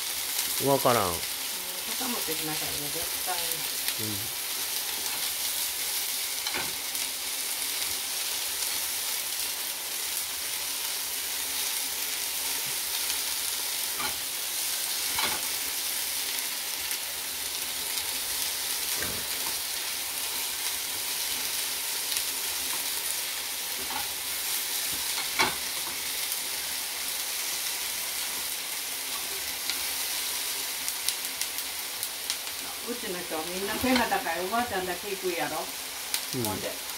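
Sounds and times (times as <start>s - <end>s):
food sizzling in a frying pan: 0.0s - 36.9s.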